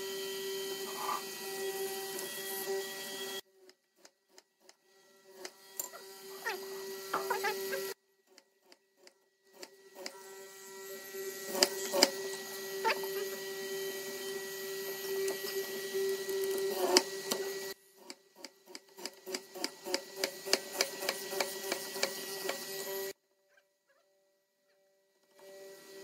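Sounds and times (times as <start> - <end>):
mortiser humming: 0.0 - 3.4, 4.0 - 23.2.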